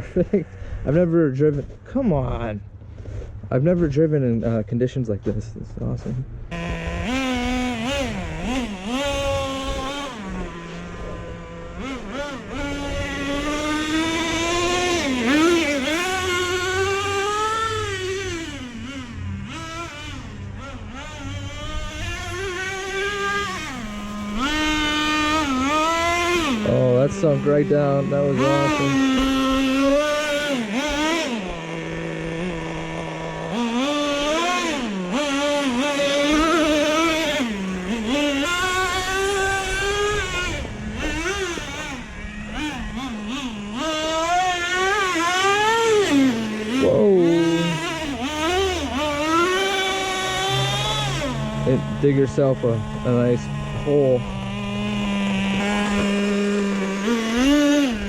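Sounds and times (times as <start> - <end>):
small two-stroke engine revving: 0.0 - 58.0.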